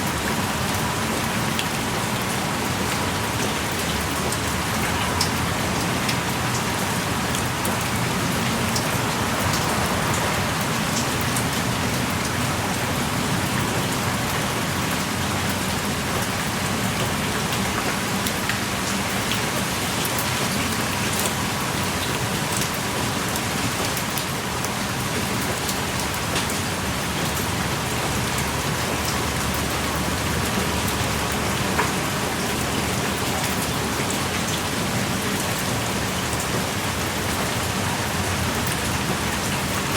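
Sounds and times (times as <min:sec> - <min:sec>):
heavy rain pouring: 0:00.0 - 0:39.9
raindrops ticking: 0:00.1 - 0:39.9.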